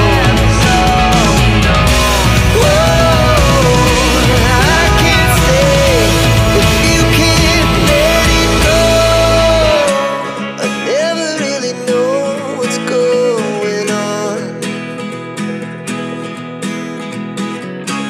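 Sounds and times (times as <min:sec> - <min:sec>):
plucked acoustic guitar music: 0:00.0 - 0:18.0.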